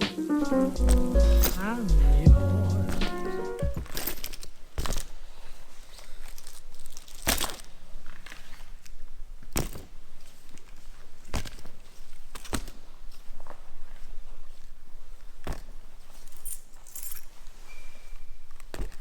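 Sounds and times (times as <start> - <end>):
faint background hiss: 0.0 - 19.0.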